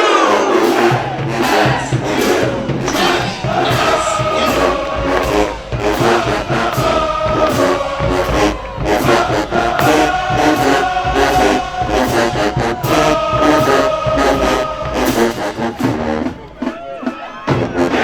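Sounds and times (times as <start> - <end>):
brass holding sustained chords: 0.0 - 16.4
drum line beat: 0.0 - 18.0.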